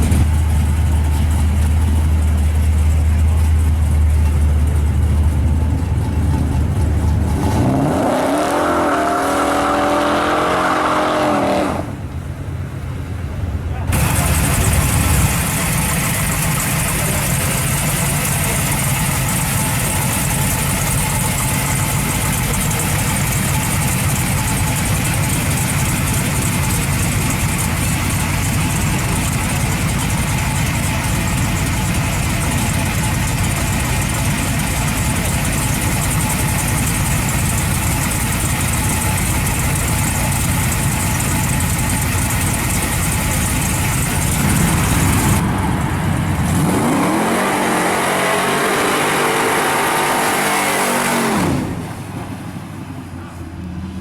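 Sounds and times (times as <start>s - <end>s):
car engine idling loudly: 0.0s - 8.4s, 12.0s - 54.0s.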